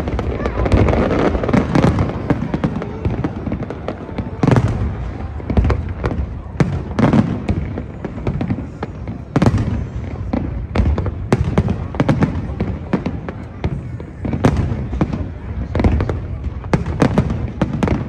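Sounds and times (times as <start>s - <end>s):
firework booms: 0.0s - 18.0s
firework pops and crackles: 0.0s - 18.0s.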